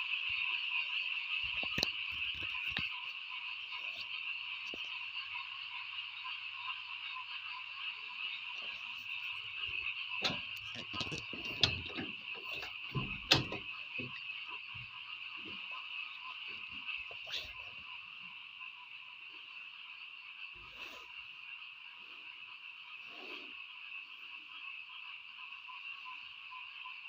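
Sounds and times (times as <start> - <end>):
frogs calling: 0.0 - 27.0.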